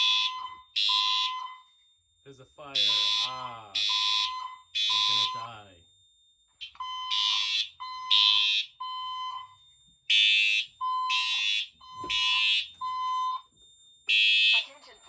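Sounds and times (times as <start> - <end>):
harsh buzzy alarm horn: 0.0 - 1.6, 2.3 - 5.8, 6.6 - 9.4, 10.1 - 13.4, 14.1 - 14.8
single-tone alarm signal: 0.0 - 1.7, 2.3 - 5.7, 6.6 - 14.7.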